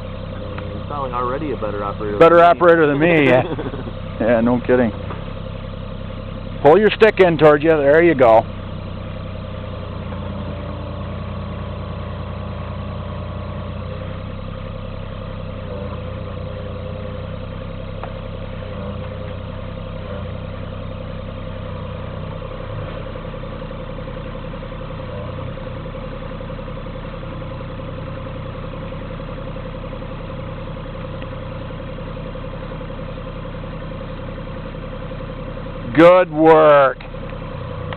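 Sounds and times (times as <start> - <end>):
excavator diesel engine running: 0.0 - 37.9
hydraulics working: 0.0 - 37.9.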